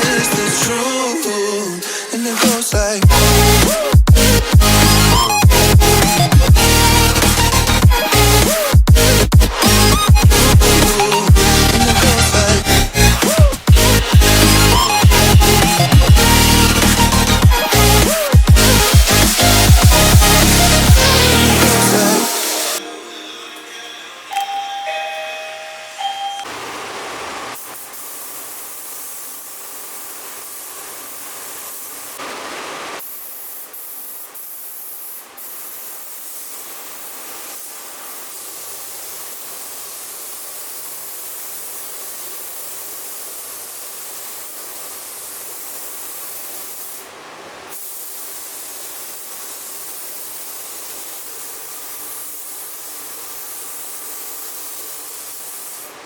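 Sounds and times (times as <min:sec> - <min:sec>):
paint spray gun hissing: 0:02.2 - 0:24.8, 0:27.5 - 0:32.2, 0:33.0 - 0:47.1, 0:47.7 - 0:56.0.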